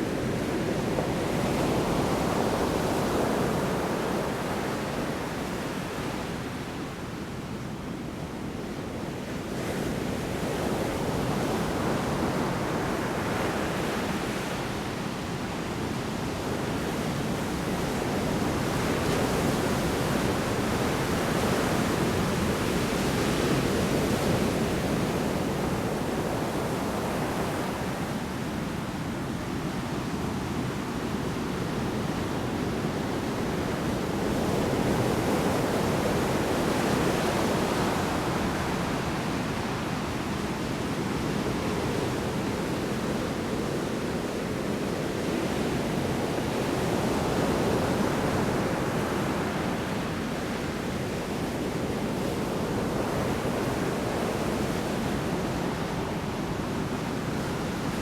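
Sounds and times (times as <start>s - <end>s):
large waves breaking on shore: 9.1s - 58.0s.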